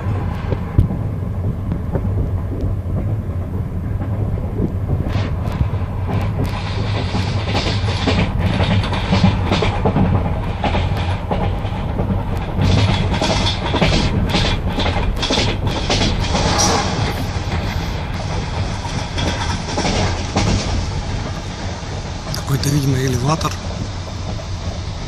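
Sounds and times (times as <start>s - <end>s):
wheels clicking over rail joints: 0.0s - 24.8s
train carriage rumbling: 0.0s - 25.0s.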